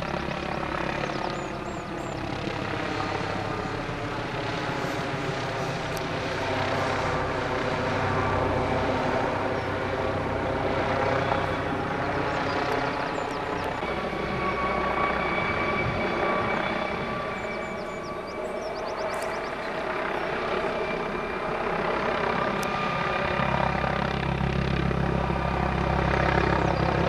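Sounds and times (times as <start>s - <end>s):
helicopter rotor beat: 0.0s - 27.0s
turbine whine: 0.0s - 27.0s.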